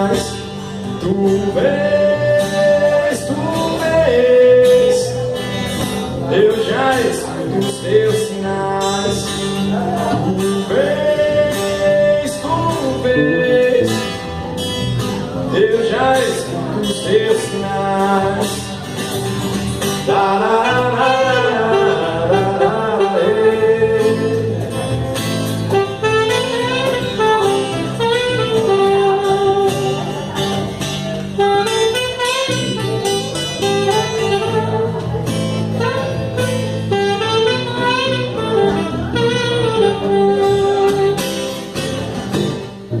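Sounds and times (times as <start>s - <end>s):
acoustic guitar accompaniment: 0.0s - 43.0s
saxophone melody: 7.0s - 15.0s, 16.2s - 43.0s.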